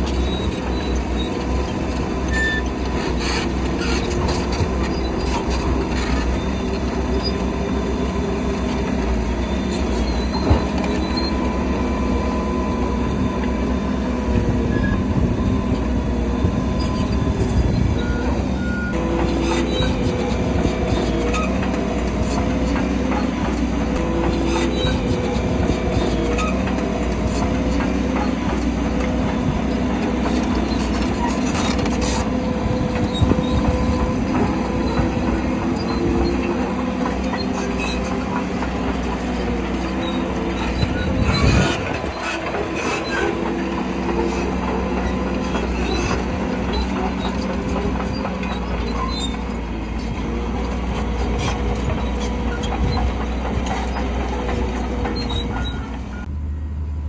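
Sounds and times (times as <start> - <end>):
steel tracks clanking and squealing: 0.0 - 56.3
bulldozer diesel engine running: 0.0 - 57.0.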